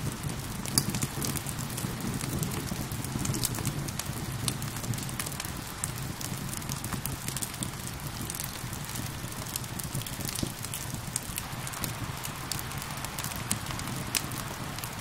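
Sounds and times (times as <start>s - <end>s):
rain falling: 0.0s - 15.0s
wood fire crackling: 0.0s - 15.0s.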